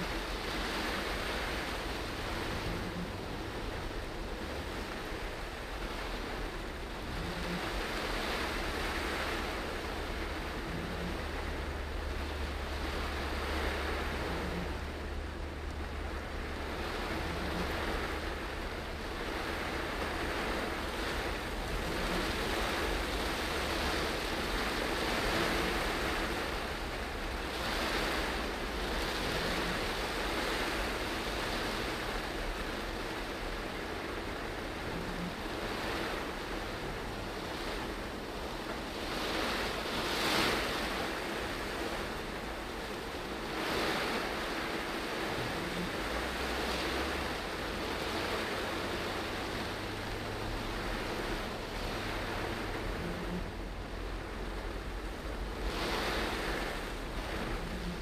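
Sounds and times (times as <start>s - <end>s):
rain on a car: 0.0s - 58.0s
tyres hissing on wet road: 0.0s - 58.0s.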